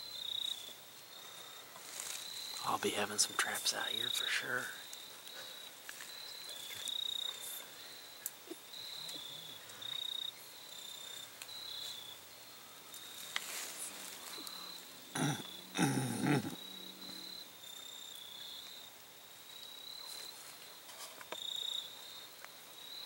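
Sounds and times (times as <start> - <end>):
insects chirping in trills: 0.0 - 23.0.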